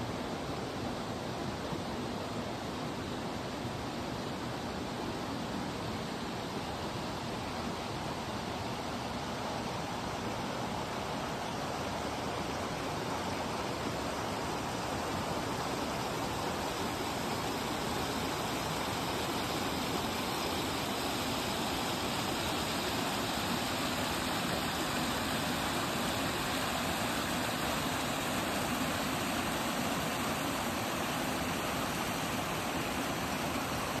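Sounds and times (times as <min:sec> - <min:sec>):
stream water rushing over rocks: 0:00.0 - 0:34.0.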